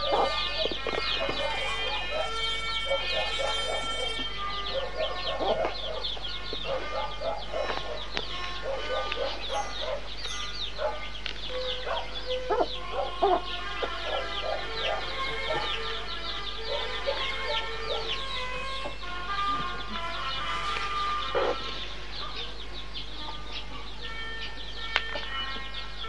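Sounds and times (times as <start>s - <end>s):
low clucking calls: 0.0s - 21.8s
birds chirping rapidly: 0.0s - 26.0s.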